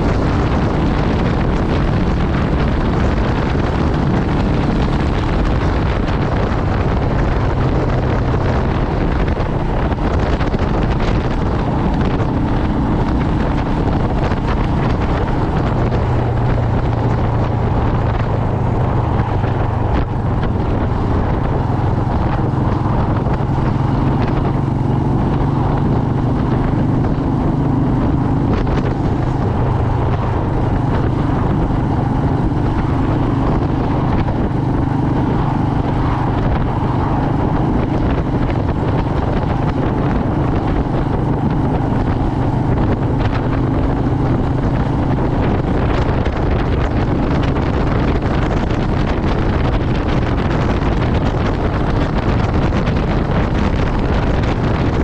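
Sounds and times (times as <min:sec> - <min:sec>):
motorcycle engine cruising: 0:00.0 - 0:55.0
wind noise on microphone: 0:00.0 - 0:55.0.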